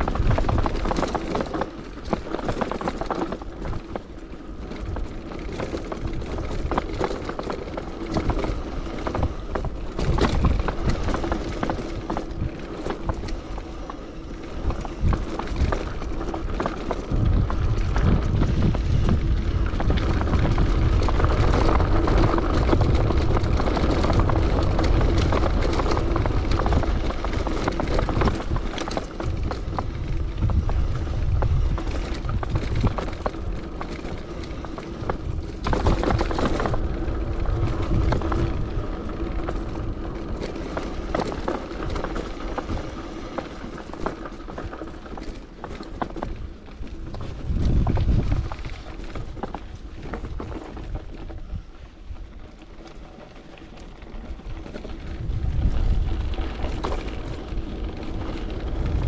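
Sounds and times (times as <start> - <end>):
bike clattering: 0.0 - 59.0
wind buffeting microphone: 0.0 - 59.0.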